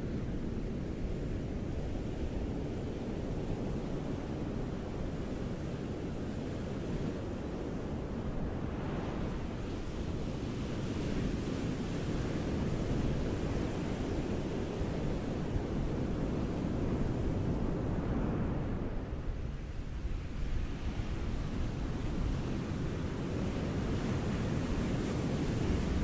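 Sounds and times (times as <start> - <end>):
waves washing onto a beach: 0.0 - 26.0.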